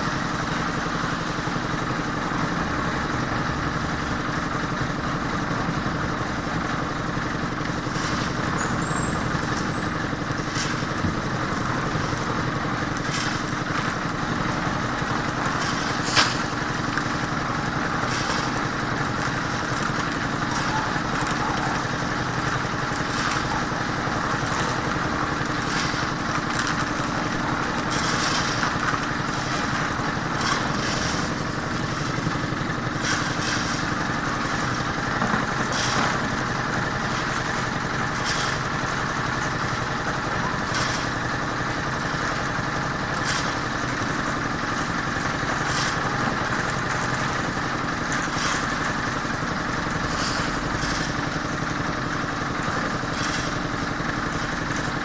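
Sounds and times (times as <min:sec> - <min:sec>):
construction machinery engine running: 0:00.0 - 0:55.0.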